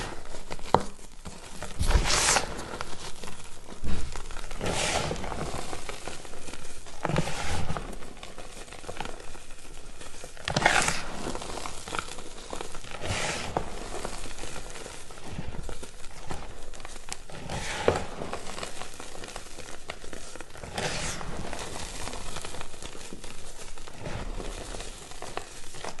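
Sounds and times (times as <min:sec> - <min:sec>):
chalk crunching: 0:00.0 - 0:26.0
fine crackling: 0:00.0 - 0:26.0.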